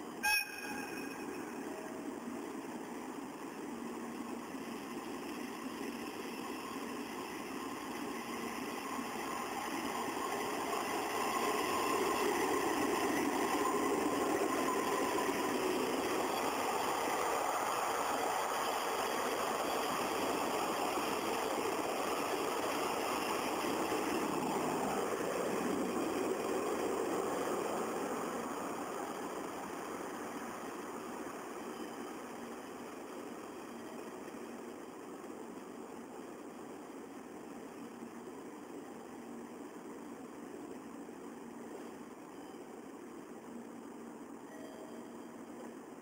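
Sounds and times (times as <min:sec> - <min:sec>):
electric locomotive running: 0:00.0 - 0:46.0
faint whine: 0:00.0 - 0:46.0.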